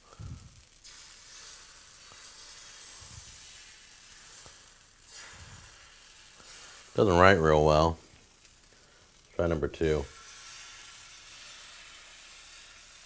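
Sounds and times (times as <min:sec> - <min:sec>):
batter sizzling on griddle: 0:00.0 - 0:13.0.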